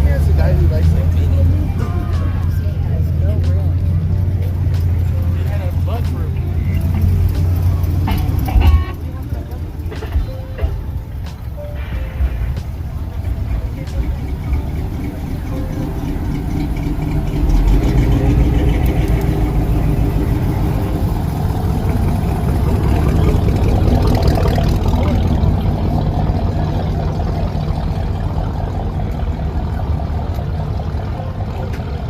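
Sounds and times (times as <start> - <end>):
car engine deep rumble: 0.0 - 32.0.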